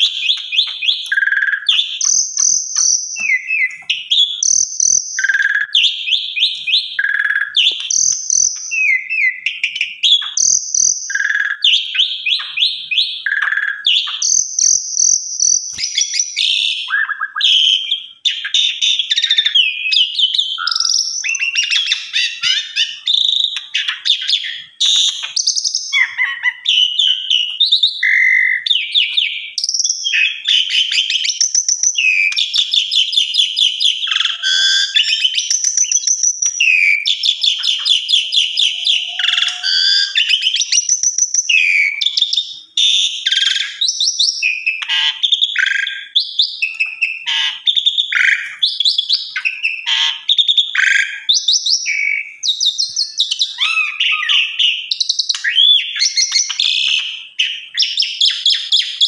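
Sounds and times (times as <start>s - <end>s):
myna singing trills and whistles: 0.0s - 59.0s.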